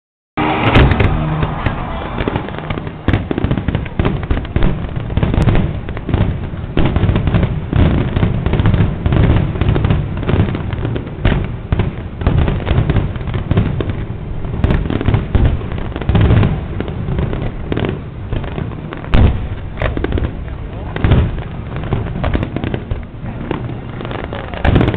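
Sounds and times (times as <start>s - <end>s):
fireworks bangs and crackling: 0.4s - 24.9s
loud fireworks booms: 0.4s - 24.9s.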